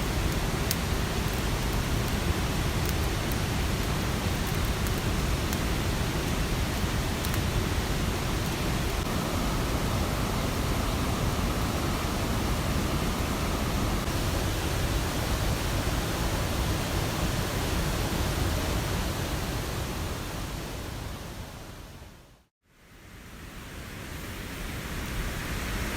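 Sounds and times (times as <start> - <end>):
mountain stream rushing: 0.0 - 21.4
rain: 0.0 - 25.9.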